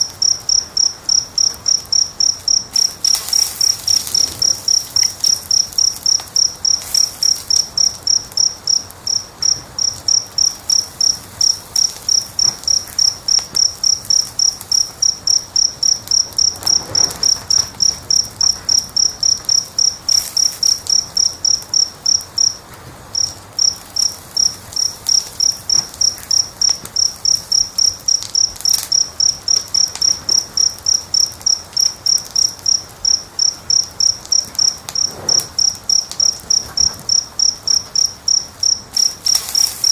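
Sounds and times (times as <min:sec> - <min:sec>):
cricket chirping: 0:00.0 - 0:39.9
faint wood fire crackles: 0:00.0 - 0:39.9.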